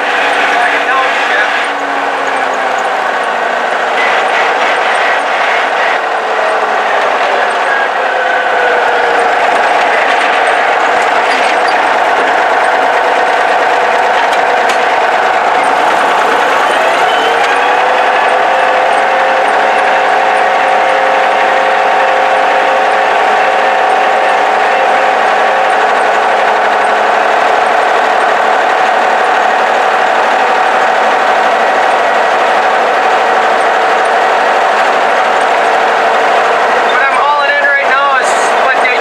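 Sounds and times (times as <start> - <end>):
tractor engine droning: 0.0 - 39.0.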